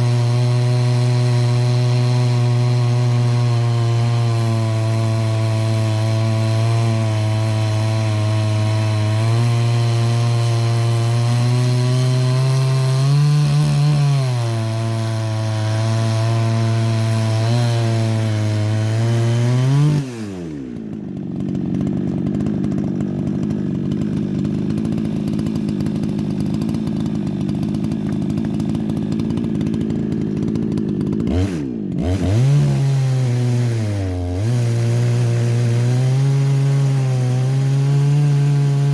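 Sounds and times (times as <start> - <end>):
chainsaw ripping through wood: 0.0 - 38.9.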